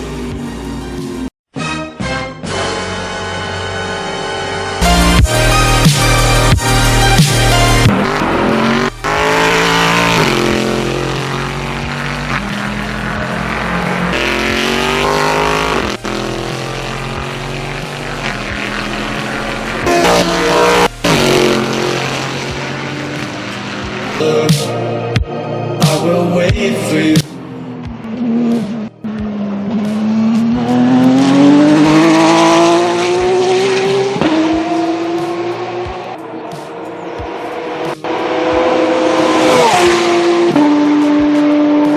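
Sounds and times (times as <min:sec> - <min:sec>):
race car engine at high revs: 0:05.8 - 0:24.6, 0:27.1 - 0:41.9.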